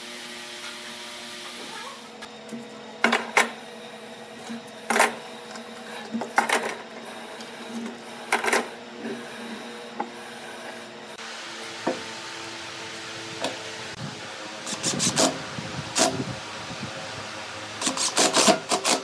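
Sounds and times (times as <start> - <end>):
steady low hum: 1.5 - 18.0.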